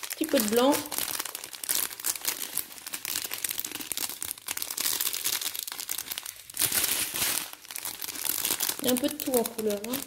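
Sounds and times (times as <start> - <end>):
plastic sachets crinkling: 0.0 - 10.0.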